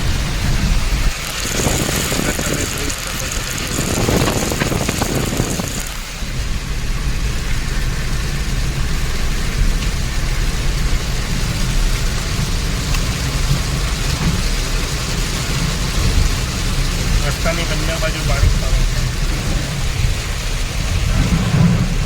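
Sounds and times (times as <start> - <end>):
car driving on wet road: 0.0 - 22.0
heavy rain on a car: 0.0 - 22.0.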